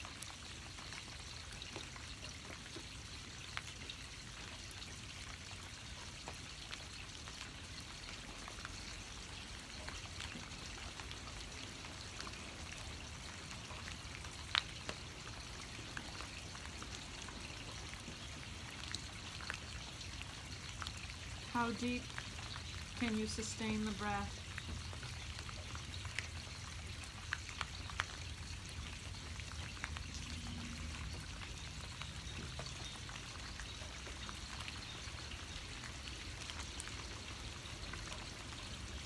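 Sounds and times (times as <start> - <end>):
rain pattering: 0.0 - 39.0
water drips: 0.0 - 39.0.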